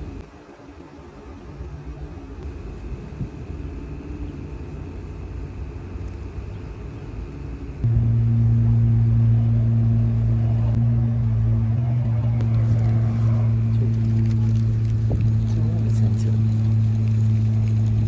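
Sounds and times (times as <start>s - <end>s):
engine low rumble: 0.0s - 18.0s
loud engine drone: 1.5s - 18.0s.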